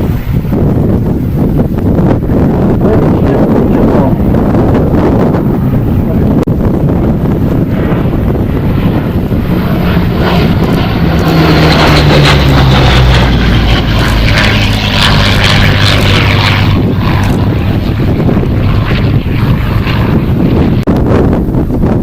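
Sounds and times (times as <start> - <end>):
propeller aircraft engine flypast: 0.0 - 22.0.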